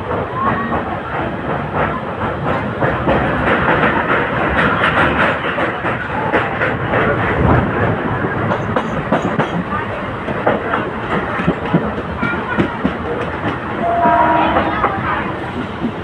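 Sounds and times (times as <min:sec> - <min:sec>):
train rushing at speed: 0:00.0 - 0:16.0.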